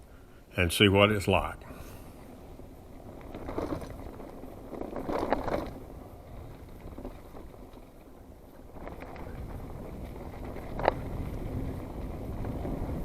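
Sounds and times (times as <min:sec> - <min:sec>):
bike tyres on dirt: 0:00.0 - 0:13.0
wind noise: 0:00.0 - 0:13.0.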